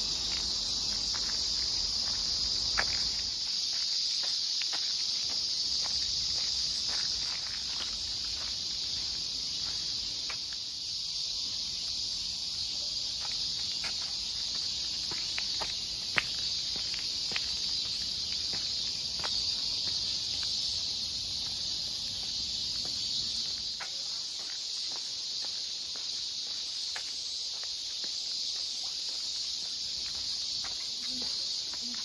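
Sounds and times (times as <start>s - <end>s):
insects chorus: 0.0s - 32.0s
footsteps on gravel and stone: 0.1s - 10.6s, 12.8s - 32.0s.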